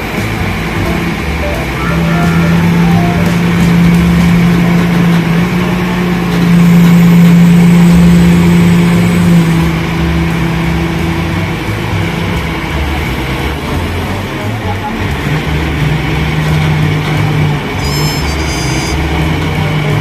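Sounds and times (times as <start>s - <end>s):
forklift engine under load: 0.0s - 20.0s.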